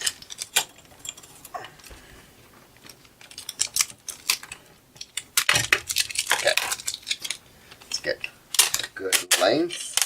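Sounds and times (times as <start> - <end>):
hands handling clear tape: 0.0 - 10.0.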